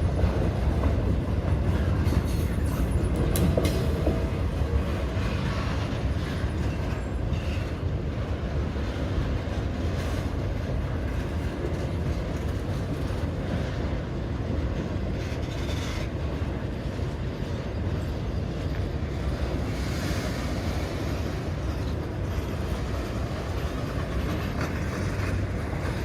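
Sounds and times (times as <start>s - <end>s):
train wheels on track: 0.0s - 26.0s.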